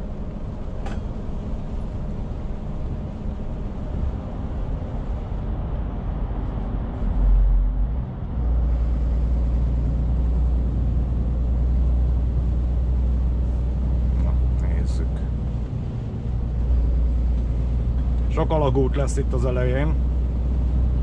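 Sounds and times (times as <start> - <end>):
deep low rumble: 0.0 - 21.0
truck engine and road noise: 0.0 - 21.0.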